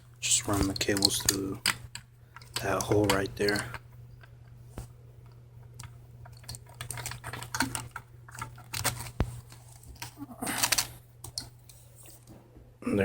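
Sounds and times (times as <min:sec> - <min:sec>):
light clicks and rustling of wiring: 0:00.0 - 0:12.4
steady low hum: 0:00.0 - 0:13.0.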